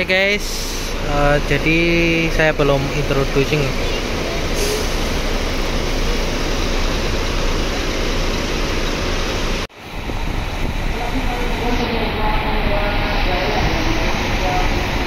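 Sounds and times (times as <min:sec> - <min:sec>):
rushing rumble: 0:00.0 - 0:15.0.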